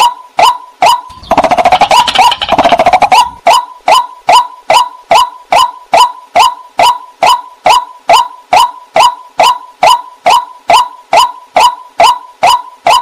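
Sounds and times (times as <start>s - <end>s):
bird calling sharp notes: 0.8s - 13.0s.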